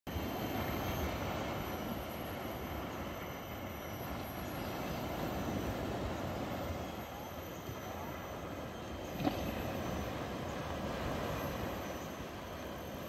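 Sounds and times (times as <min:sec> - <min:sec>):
shallow sea at shoreline: 0:00.1 - 0:13.0
wind: 0:00.1 - 0:13.0.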